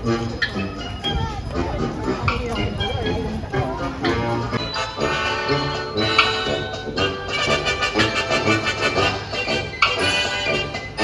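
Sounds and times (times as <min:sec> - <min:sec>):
instrumental music chords: 0:00.0 - 0:11.0.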